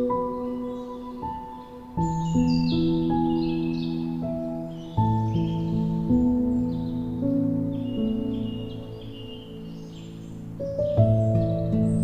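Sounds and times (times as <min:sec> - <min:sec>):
birds chirping: 0:00.0 - 0:12.0
soft ambient music: 0:00.0 - 0:12.0.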